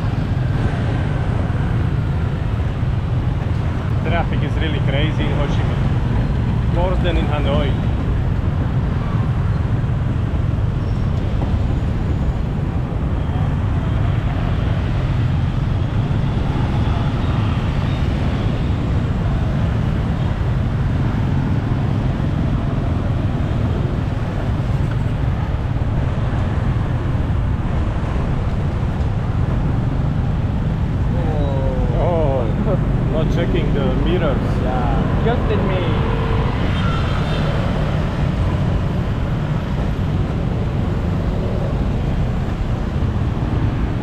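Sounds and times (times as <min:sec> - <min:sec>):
motorbike and city traffic: 0:00.0 - 0:44.0.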